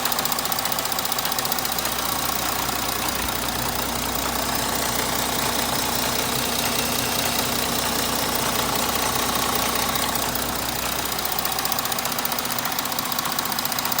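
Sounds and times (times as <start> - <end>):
diesel engine running: 0.0 - 14.0
fast even ticking: 0.0 - 14.0.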